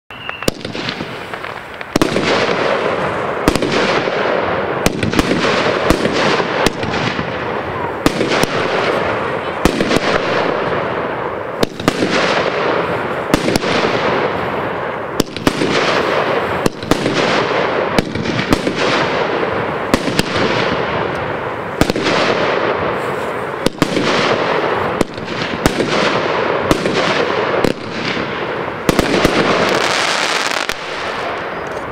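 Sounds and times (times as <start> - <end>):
firework launch bangs: 0.2 - 31.9
firework rushing hiss: 0.2 - 31.9.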